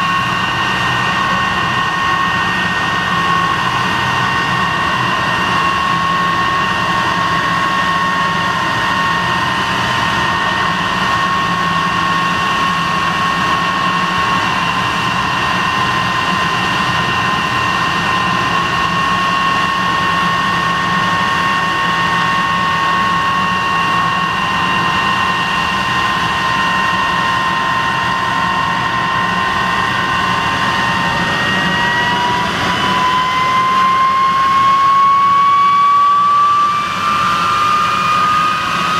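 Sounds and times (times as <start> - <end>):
jet engine high whine: 0.0 - 38.9.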